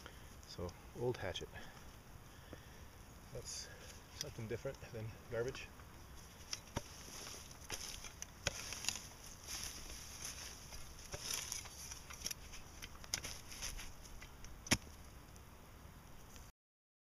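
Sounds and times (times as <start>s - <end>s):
soil rustling and crunching: 0.0s - 15.5s.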